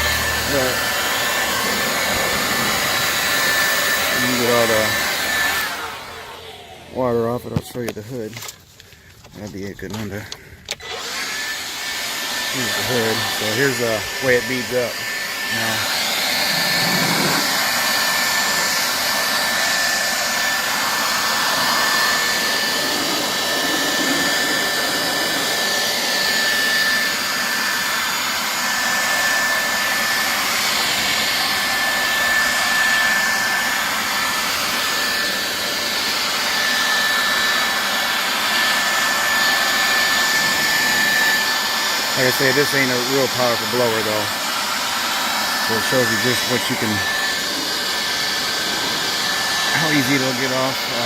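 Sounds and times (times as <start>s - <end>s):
handheld blower running: 0.0s - 51.0s.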